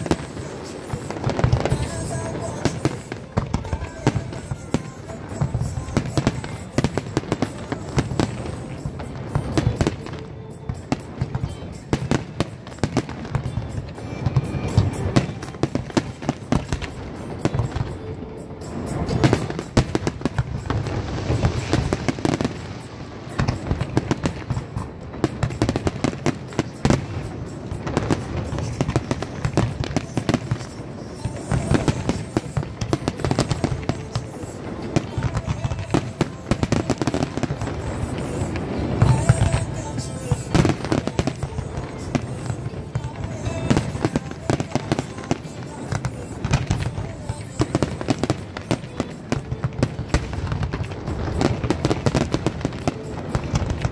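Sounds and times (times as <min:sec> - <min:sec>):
fireworks bursts and crackling: 0:00.0 - 0:53.9.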